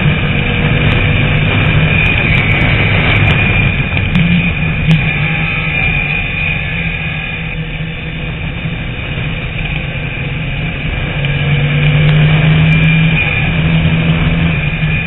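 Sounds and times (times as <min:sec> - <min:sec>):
race car engine at speed: 0:00.0 - 0:15.0.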